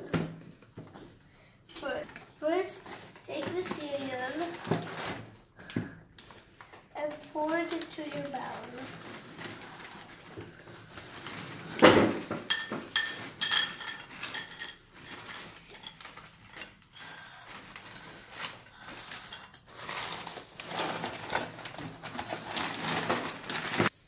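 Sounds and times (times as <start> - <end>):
foil bag crinkling: 2.9 - 5.4, 6.2 - 12.3, 13.0 - 24.0.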